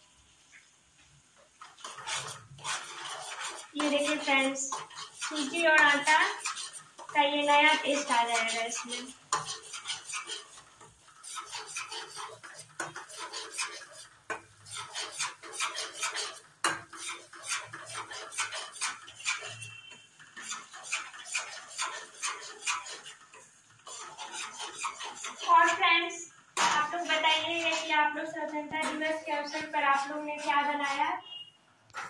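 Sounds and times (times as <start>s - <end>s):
steel spoon scraping a pan: 1.6s - 32.0s.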